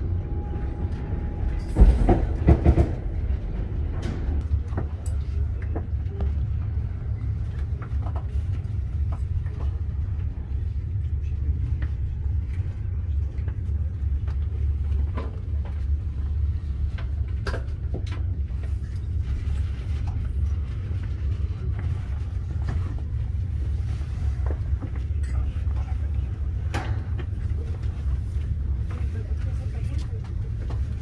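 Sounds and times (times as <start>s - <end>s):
train rumbling from inside carriage: 0.0s - 31.0s.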